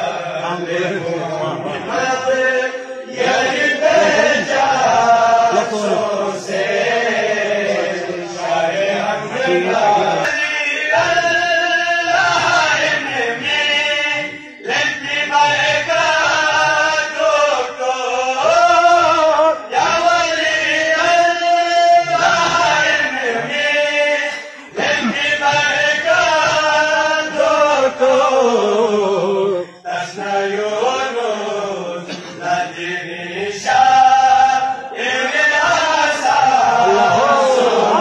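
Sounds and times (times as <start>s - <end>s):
men singing a chant-like melody: 0.0s - 38.0s.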